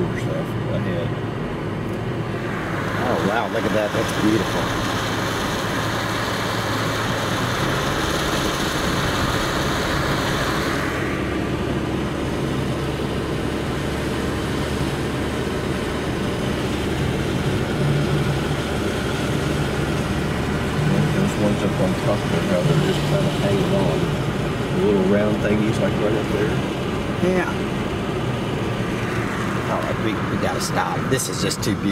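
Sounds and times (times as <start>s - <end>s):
car cabin road and engine noise: 0.0s - 31.9s.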